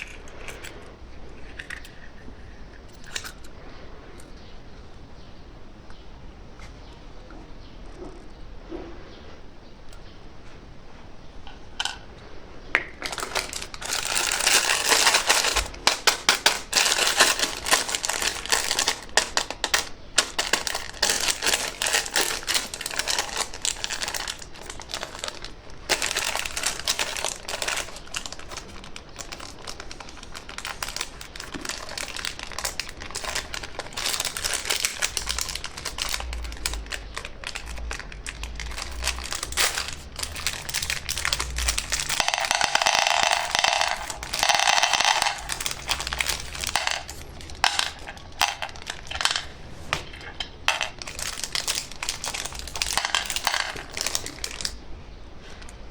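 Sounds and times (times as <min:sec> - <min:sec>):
candy wrappers crinkling: 0:00.0 - 0:03.5, 0:12.8 - 0:55.9.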